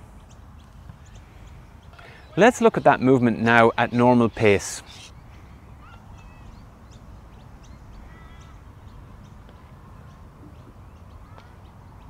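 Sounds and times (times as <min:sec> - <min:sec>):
birds chirping: 0:00.0 - 0:12.0
bird trill: 0:01.0 - 0:12.0.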